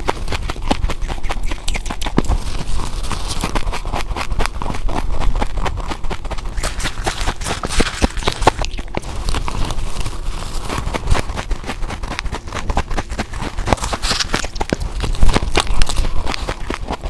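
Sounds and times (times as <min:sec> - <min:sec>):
person chewing ice: 0:00.0 - 0:17.0.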